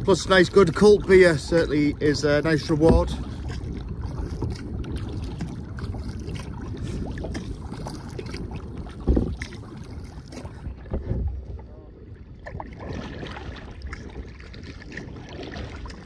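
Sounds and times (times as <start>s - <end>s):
paddle splashing in water: 0.0s - 16.0s
wind buffeting microphone: 0.0s - 16.0s.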